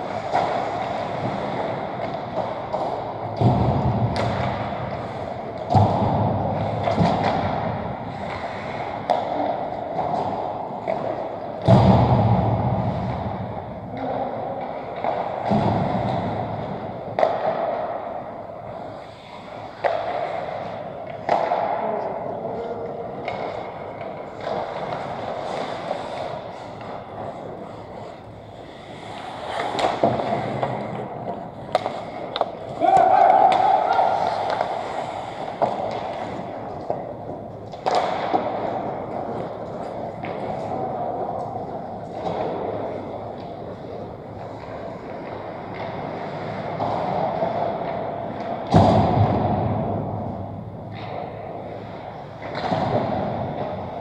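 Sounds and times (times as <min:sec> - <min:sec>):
skates scraping on ice: 0:00.0 - 0:54.0
thumps of sticks and pucks: 0:00.0 - 0:54.0.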